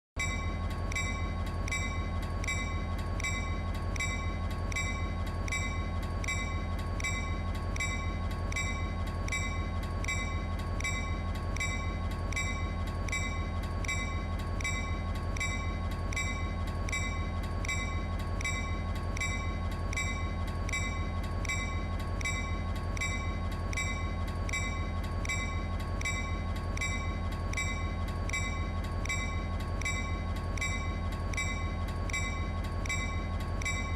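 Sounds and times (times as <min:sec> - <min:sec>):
constant low rumble: 0:00.2 - 0:33.9.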